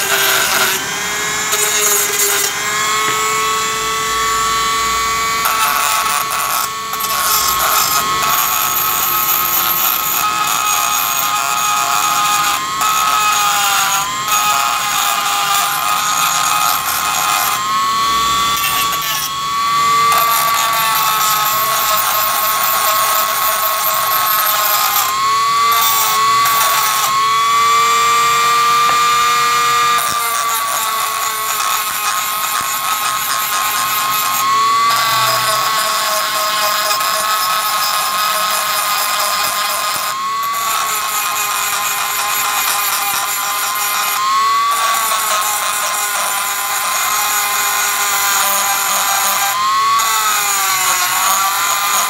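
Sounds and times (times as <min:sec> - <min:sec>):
rotary tool grinding metal: 0:00.0 - 0:52.0.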